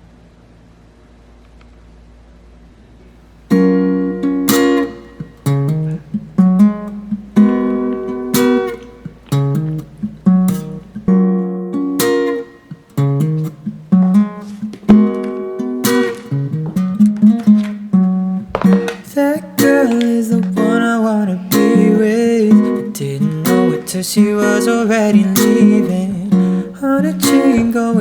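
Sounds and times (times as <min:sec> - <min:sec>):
acoustic guitar strumming: 0:03.4 - 0:28.0.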